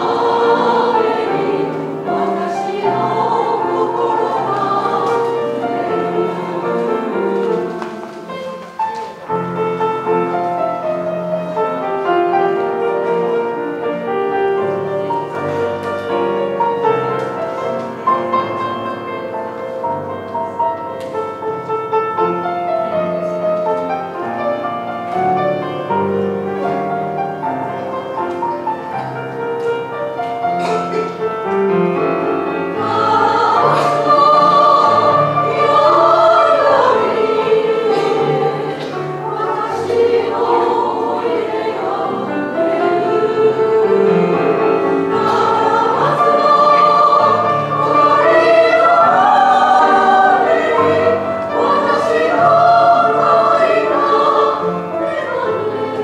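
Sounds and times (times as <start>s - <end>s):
piano accompaniment: 0.0s - 56.0s
women's choir singing: 0.0s - 56.0s.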